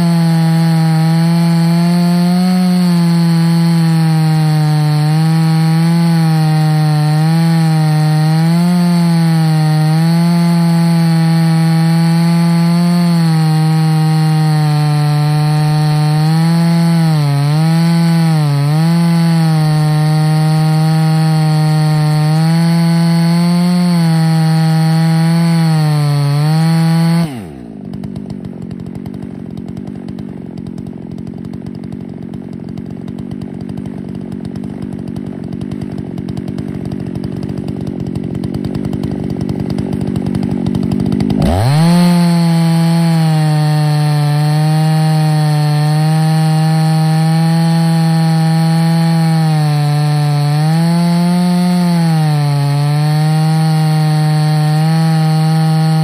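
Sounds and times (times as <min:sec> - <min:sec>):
chainsaw cutting log: 0:00.0 - 0:56.0
chainsaw idling: 0:00.0 - 0:56.0.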